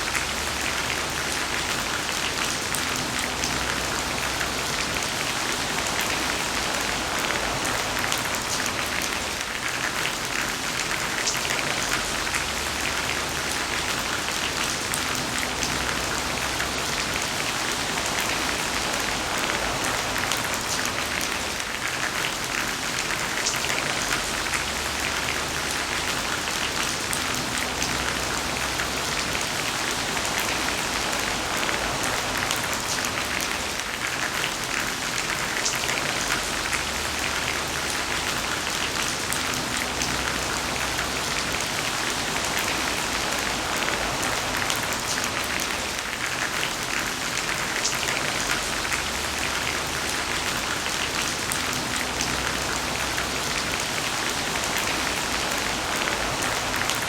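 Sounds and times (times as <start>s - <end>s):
heavy rain hissing: 0.0s - 57.0s
raindrops splashing: 0.0s - 57.0s.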